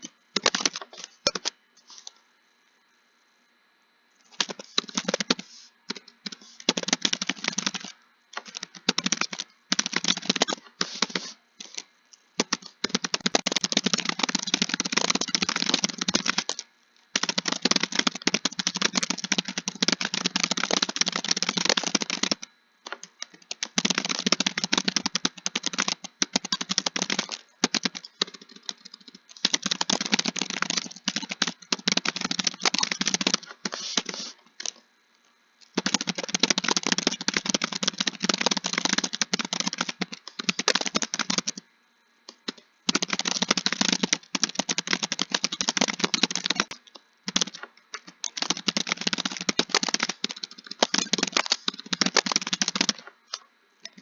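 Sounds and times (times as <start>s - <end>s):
fast typing on keyboard: 0.0s - 1.5s, 4.4s - 34.8s, 35.6s - 41.6s, 42.4s - 53.4s.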